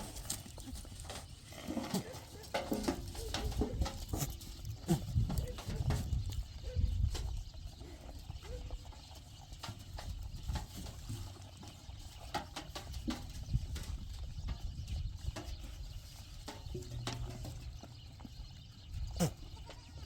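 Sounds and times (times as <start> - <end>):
hooves clopping: 0.0 - 20.0.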